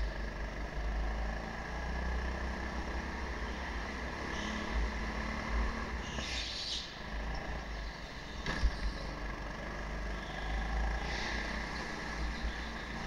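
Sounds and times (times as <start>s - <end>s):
go-kart engine drone: 0.0s - 13.0s.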